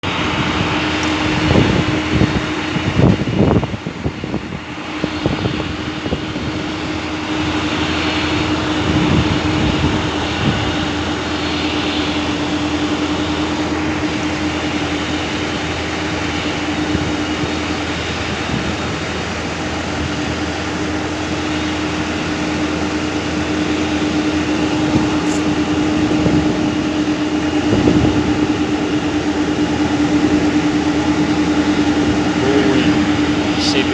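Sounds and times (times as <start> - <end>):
droning hum: 0.0 - 33.9
jet aircraft engine rush: 0.0 - 33.9.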